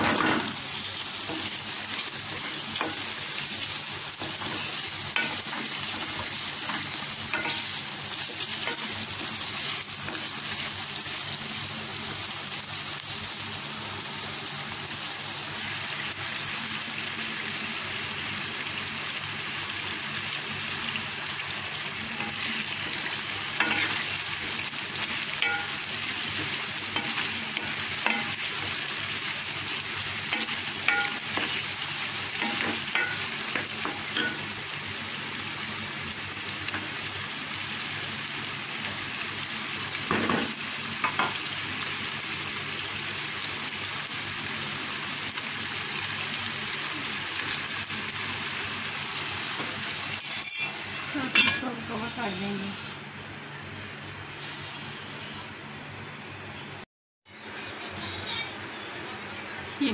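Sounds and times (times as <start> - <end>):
mince sizzling in a pan: 0.0 - 59.9.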